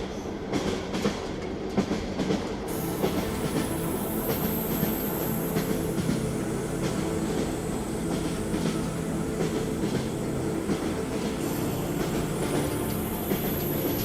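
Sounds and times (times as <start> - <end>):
train rumble: 0.0 - 14.0
train wheels clicking on rail joints: 0.0 - 14.0.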